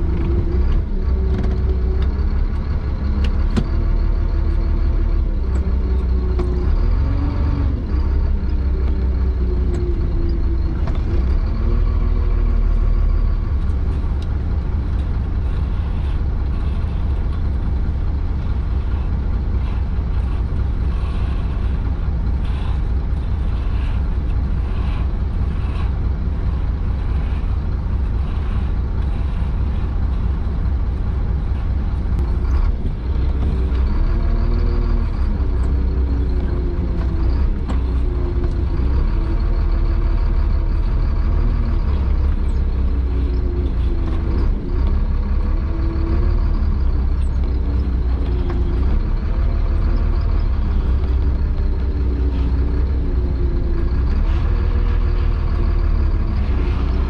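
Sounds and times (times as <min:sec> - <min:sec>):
diesel truck engine rumble: 0:00.0 - 0:57.0.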